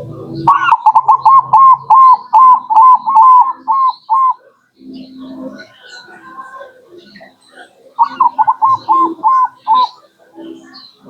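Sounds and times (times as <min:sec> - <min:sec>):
dove cooing: 0:00.0 - 0:10.8.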